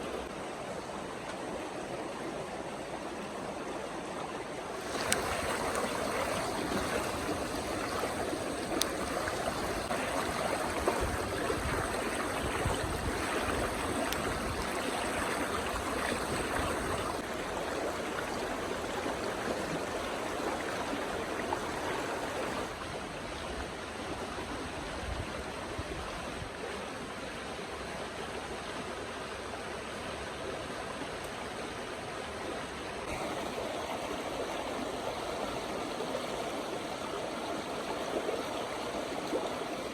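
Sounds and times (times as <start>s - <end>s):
river water rushing: 0.0s - 25.7s, 26.5s - 39.9s.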